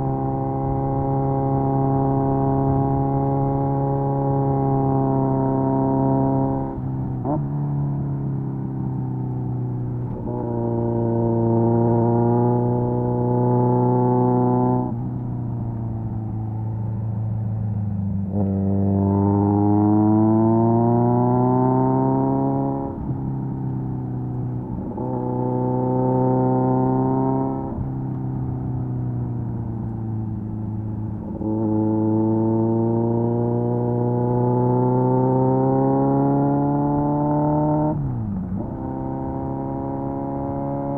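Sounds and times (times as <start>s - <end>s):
motorcycle engine steady throttle: 0.0s - 40.9s.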